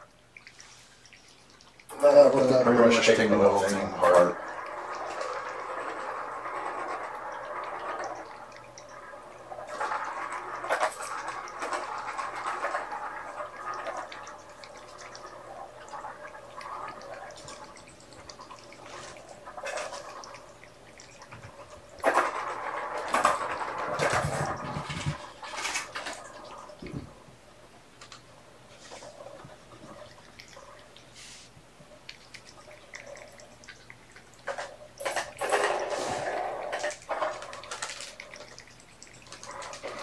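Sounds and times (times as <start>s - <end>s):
kittens scratching and rustling: 0.4s - 27.2s, 28.0s - 40.0s.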